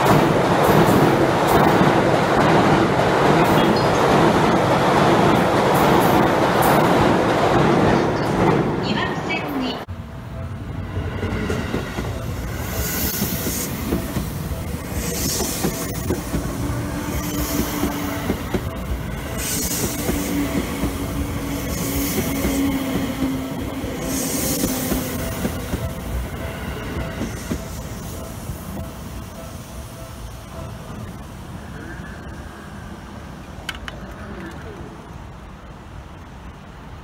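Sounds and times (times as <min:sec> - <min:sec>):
train wheels on rails: 0:00.0 - 0:09.8, 0:10.7 - 0:37.0
electric train passing: 0:00.0 - 0:37.0.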